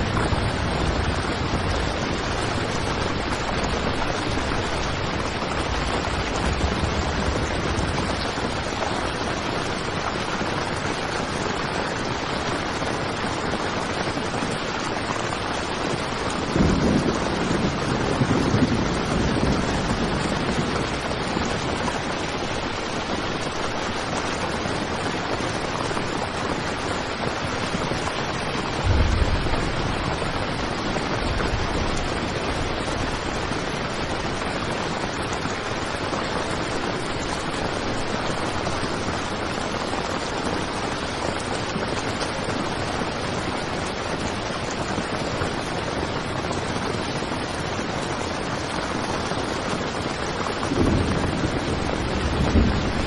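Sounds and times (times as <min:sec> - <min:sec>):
heavy rain on a tent: 0:00.0 - 0:53.0.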